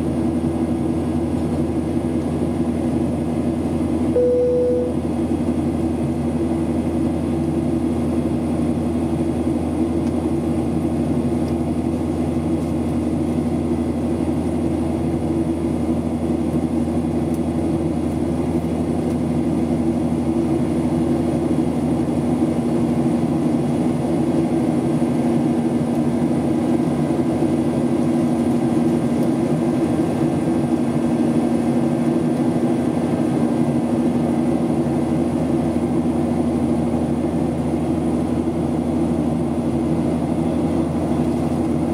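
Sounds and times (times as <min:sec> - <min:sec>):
jet engine cabin drone: 0:00.0 - 0:41.9.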